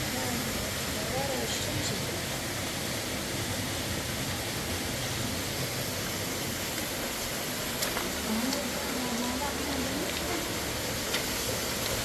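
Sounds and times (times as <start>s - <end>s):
mountain river rushing: 0.0s - 12.0s.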